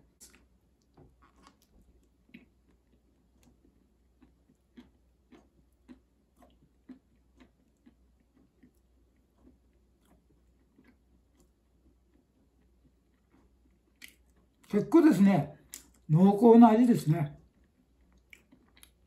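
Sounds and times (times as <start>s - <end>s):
chewing with mouth clicks: 0.1s - 14.7s, 15.6s - 16.1s, 17.4s - 19.0s.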